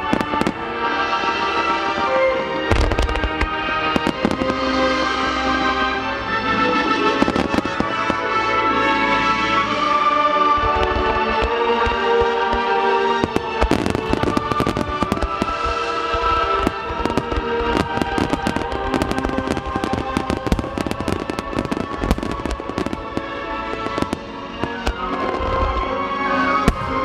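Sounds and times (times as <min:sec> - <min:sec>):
music: 0:00.0 - 0:27.0.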